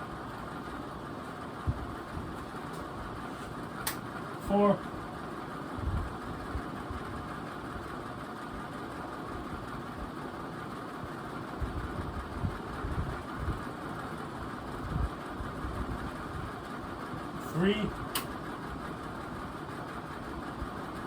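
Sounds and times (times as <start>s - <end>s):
ceiling fan whirring: 0.0s - 21.0s.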